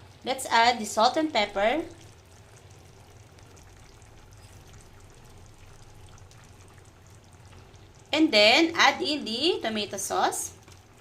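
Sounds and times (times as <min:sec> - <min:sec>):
water boiling in a pot: 0:00.0 - 0:11.0.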